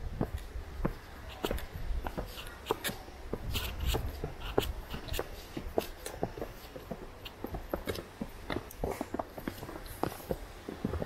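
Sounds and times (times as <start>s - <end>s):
footsteps on forest path: 0.2s - 11.0s.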